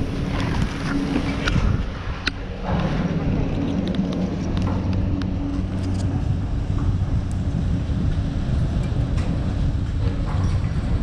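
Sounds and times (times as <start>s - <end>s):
chairlift machinery hum: 0.0s - 11.0s.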